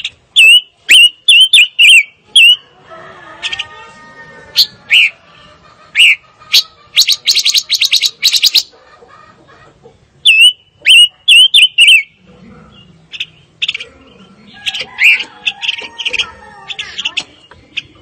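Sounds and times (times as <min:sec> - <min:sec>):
bird singing: 0:00.0 - 0:02.8, 0:03.4 - 0:08.8, 0:10.2 - 0:18.0.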